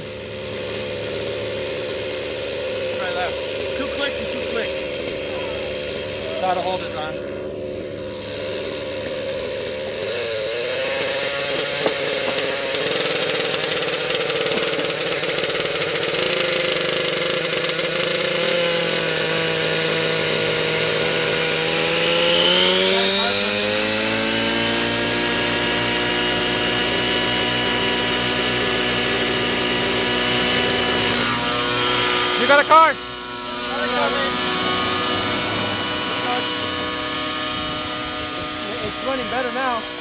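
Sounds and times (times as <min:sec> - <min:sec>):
rc helicopter engine and rotor: 0:00.0 - 0:40.0.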